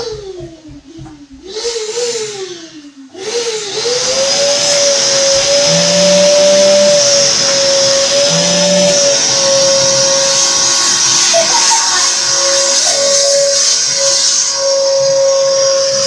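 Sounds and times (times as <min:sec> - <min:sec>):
vacuum cleaner motor: 0:00.0 - 0:16.0.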